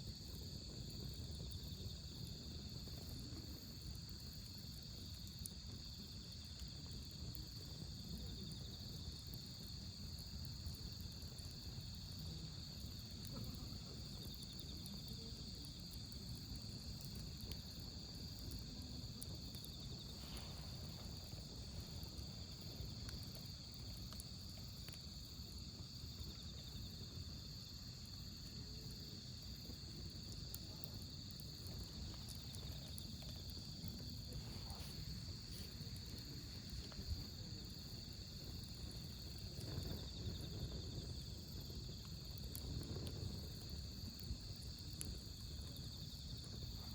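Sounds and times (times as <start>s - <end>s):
burning wood crackles: 0.0s - 46.9s
crickets trilling: 0.0s - 46.9s
wood fire rumbling: 0.0s - 46.9s.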